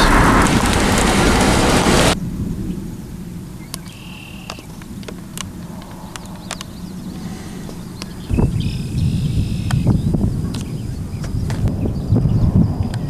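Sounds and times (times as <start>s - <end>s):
low thunder rumble: 0.0s - 3.8s, 4.7s - 13.0s
rush of wind and rain: 0.0s - 13.0s.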